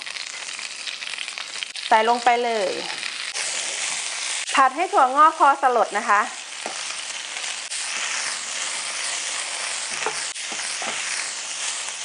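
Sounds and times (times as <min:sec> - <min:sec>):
bean sprouts sizzling in oil: 0:00.0 - 0:12.0.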